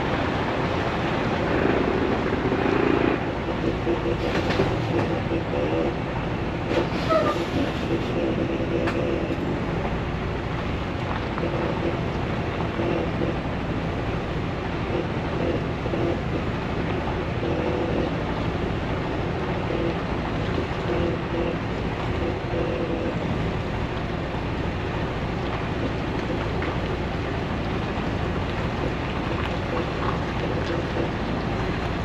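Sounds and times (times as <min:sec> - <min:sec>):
truck engine and road drone: 0:00.0 - 0:32.0.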